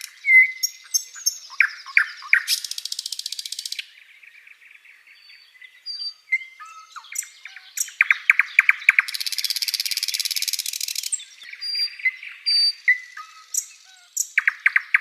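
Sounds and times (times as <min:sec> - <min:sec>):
flycatcher singing: 0:00.0 - 0:15.0.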